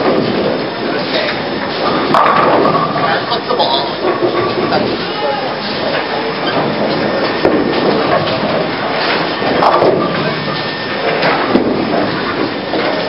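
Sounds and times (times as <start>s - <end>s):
bowling balls rolling: 0.0s - 13.0s.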